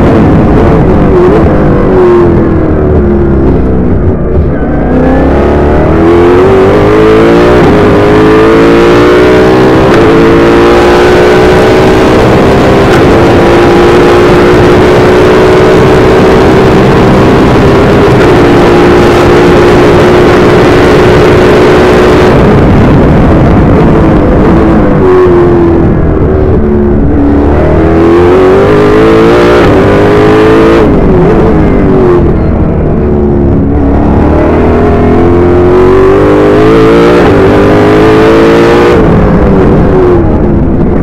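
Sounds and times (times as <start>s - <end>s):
race car engine revving: 0.0s - 41.0s.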